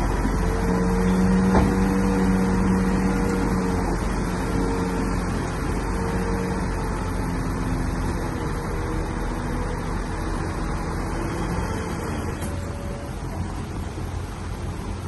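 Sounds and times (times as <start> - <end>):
bulldozer diesel engine under load: 0.0 - 15.0.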